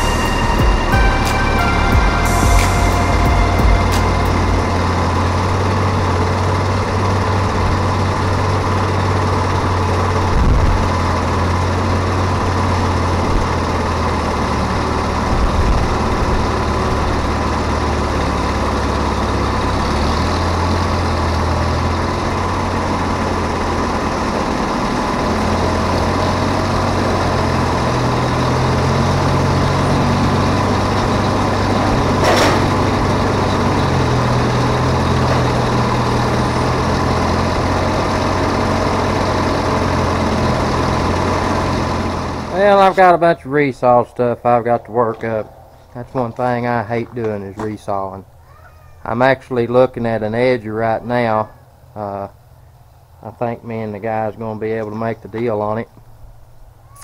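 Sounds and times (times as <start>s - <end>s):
large engine running: 0.0s - 57.0s.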